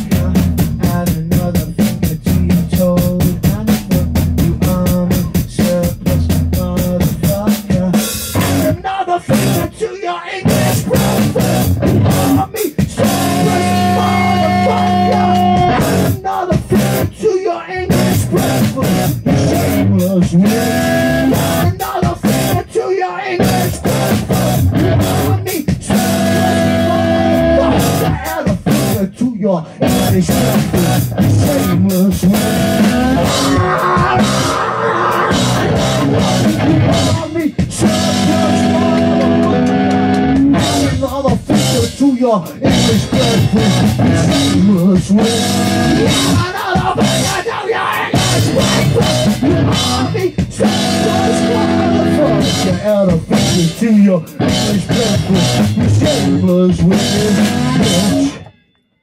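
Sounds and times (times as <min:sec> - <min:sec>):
live rock band playing: 0:00.0 - 0:09.8, 0:10.4 - 0:17.3, 0:17.9 - 0:22.8, 0:23.4 - 0:29.1, 0:29.8 - 0:58.5
person singing: 0:00.0 - 0:58.5.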